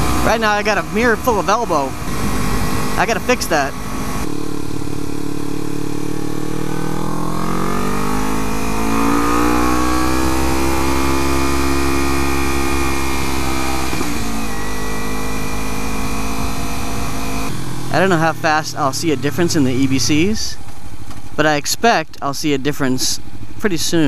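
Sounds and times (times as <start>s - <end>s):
motorcycle engine running: 0.0s - 21.4s.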